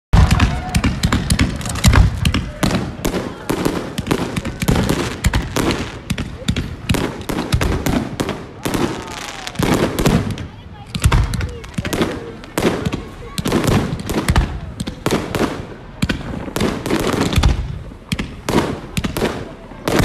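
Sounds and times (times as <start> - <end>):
fireworks bursting: 0.1 - 20.0.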